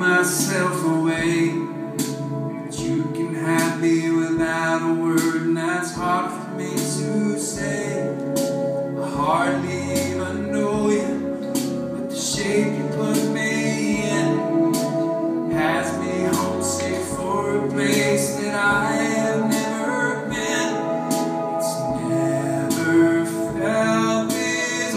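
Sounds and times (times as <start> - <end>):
man singing: 0.0 - 24.9.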